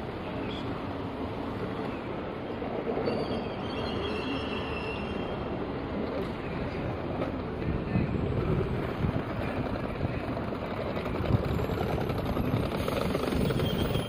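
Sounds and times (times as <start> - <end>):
street traffic rumble: 0.0 - 14.0
streetcar rolling: 0.0 - 14.0.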